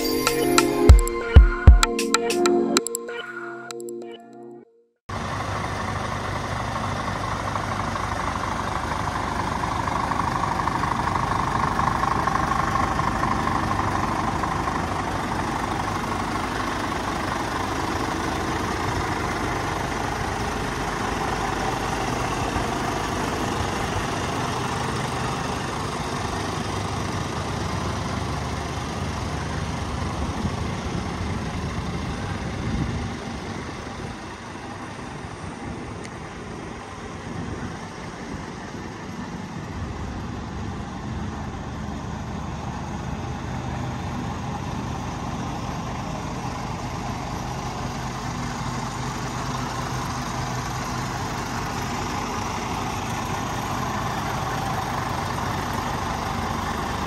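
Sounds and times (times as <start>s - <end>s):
diesel engine idling: 5.1s - 57.0s.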